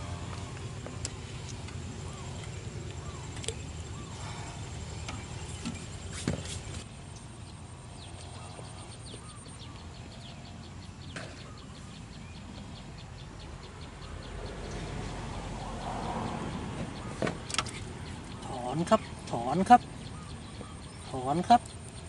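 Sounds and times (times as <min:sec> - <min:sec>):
outdoor background noise: 0:00.0 - 0:22.0
bird chirping: 0:00.4 - 0:22.0.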